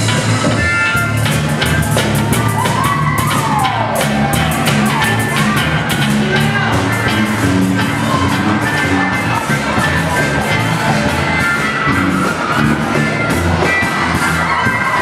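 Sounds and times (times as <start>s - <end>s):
rock and roll band playing: 0.0s - 15.0s
steady drumbeat: 0.0s - 15.0s.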